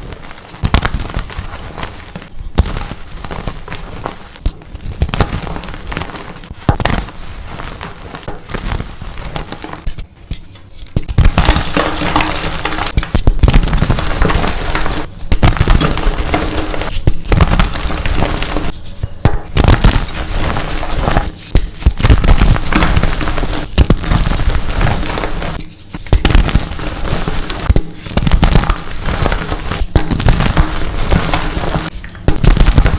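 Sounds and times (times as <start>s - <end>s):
chalk crunching and crackling: 0.0s - 32.9s.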